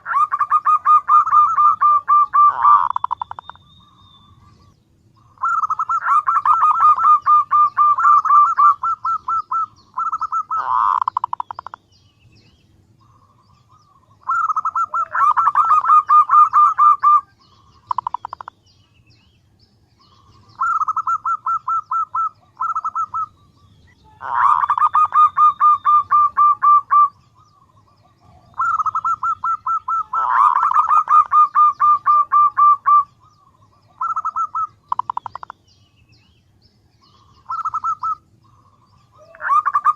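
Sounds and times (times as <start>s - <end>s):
dove cooing: 0.0s - 11.8s, 13.0s - 18.5s, 20.0s - 35.5s, 37.0s - 39.9s.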